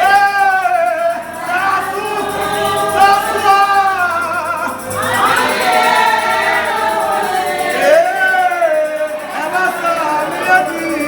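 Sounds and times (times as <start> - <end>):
group singing gospel song: 0.0 - 11.0.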